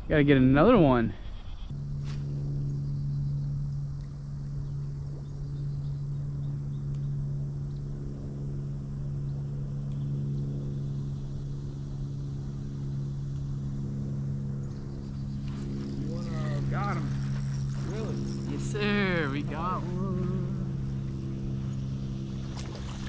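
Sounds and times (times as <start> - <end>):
steady low drone: 1.6 - 23.0.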